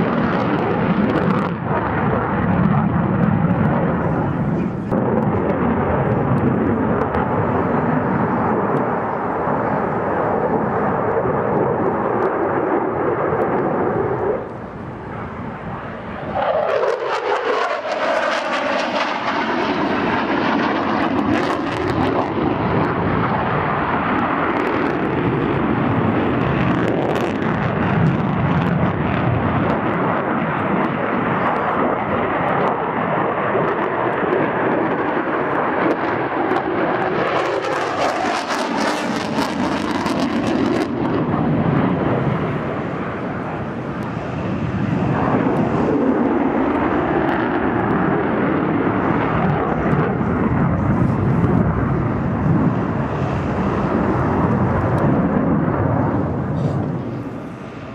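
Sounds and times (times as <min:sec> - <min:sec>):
jet engine roar: 0:00.0 - 0:57.9
jet exhaust crackling: 0:00.0 - 0:57.9.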